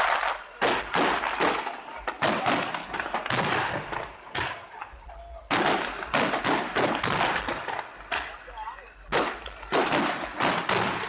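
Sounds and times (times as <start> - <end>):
aerial fireworks bangs: 0.0 - 8.4, 9.1 - 11.0.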